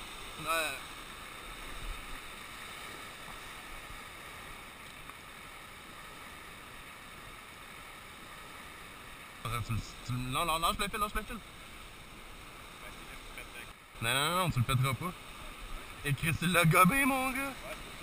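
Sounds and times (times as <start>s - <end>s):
sea surf rushing over rocks: 0.0s - 18.0s.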